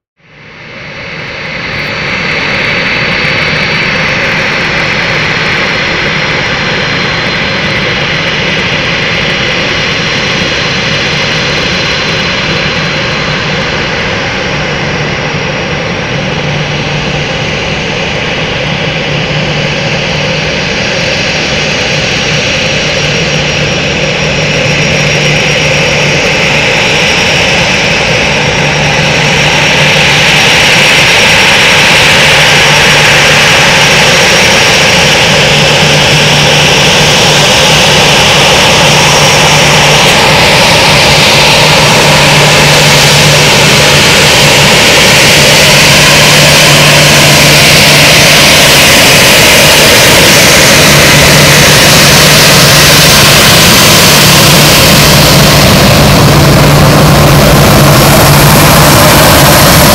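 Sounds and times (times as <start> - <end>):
jet engines rushing with whine: 0.0 - 59.9.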